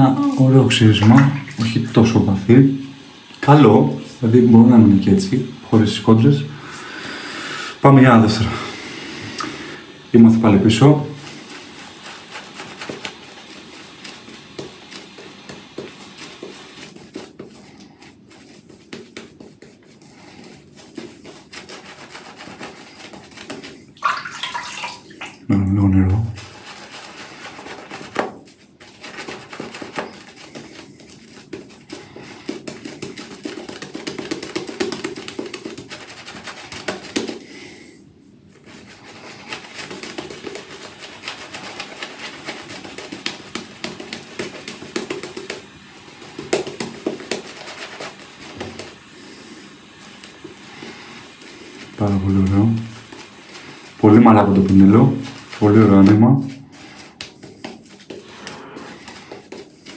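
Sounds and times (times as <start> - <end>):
shaving brush rubbing lather: 0.0 - 59.9.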